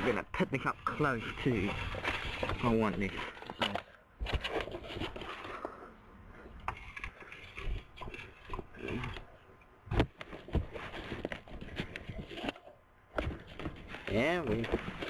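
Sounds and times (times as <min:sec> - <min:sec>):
objects knocking and scraping: 0:00.0 - 0:15.0.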